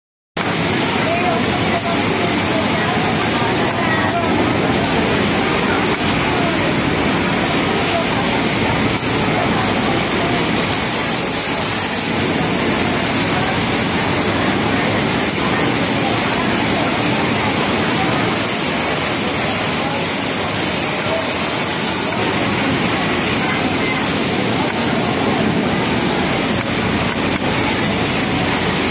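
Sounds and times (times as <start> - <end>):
industrial sewing machines running: 0.4 - 28.9
voices talking: 0.8 - 28.9.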